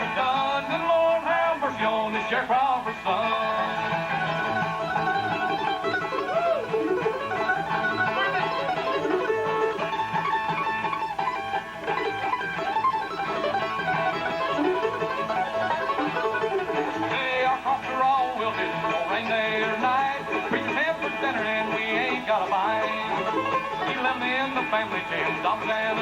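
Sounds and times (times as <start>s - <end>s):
acoustic guitar: 0.0s - 26.0s
banjo: 0.0s - 26.0s
mandolin: 0.0s - 26.0s
upright bass: 0.0s - 26.0s.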